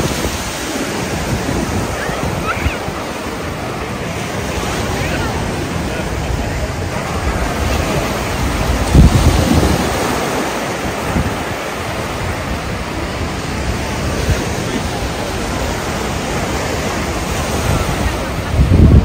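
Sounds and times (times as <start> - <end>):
surf washing up a beach: 0.0 - 19.0
wind buffeting the microphone: 0.0 - 19.0.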